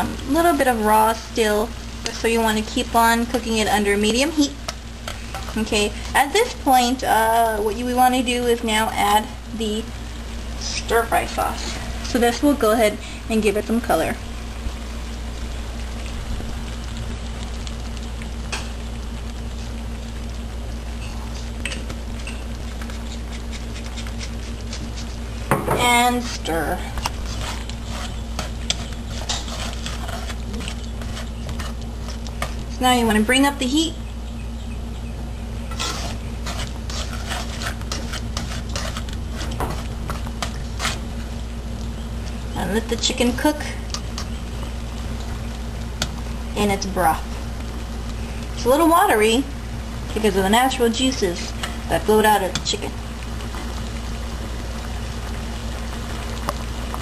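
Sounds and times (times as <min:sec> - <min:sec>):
chicken sizzling in a wok: 0:00.0 - 0:57.0
steady low hum: 0:00.0 - 0:57.0.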